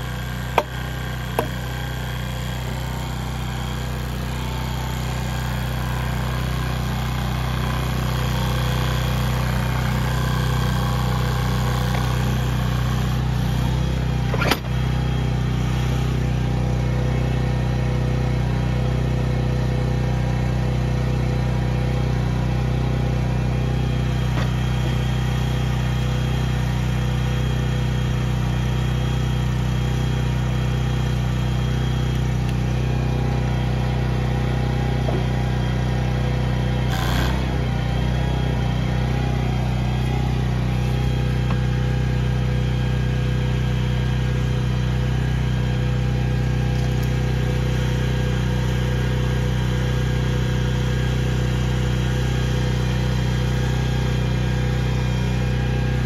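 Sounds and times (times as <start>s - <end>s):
hydraulic unit humming: 0.0s - 56.0s.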